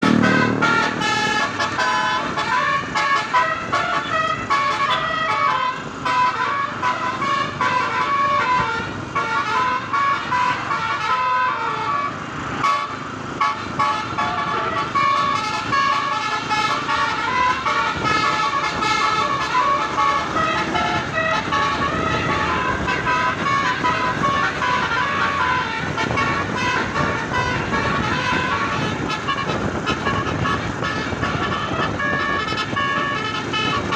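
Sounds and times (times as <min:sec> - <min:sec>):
multi-tone bus horn melody: 0:00.0 - 0:33.9.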